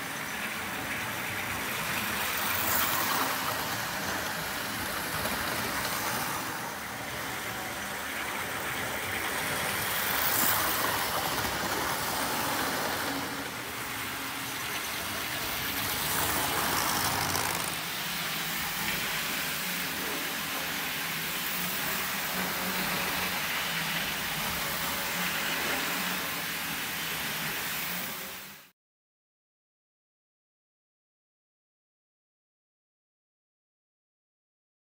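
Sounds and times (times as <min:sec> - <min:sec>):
model train motors whirring: 0:00.0 - 0:28.7.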